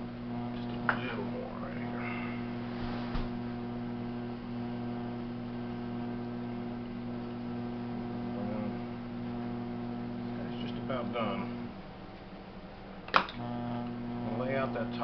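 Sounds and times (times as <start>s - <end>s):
electric motor hum: 0.0s - 12.4s, 13.3s - 15.0s.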